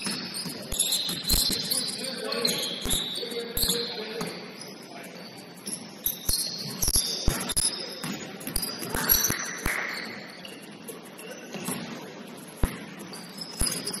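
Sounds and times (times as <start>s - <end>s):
shoes squeaking: 0.0s - 14.0s.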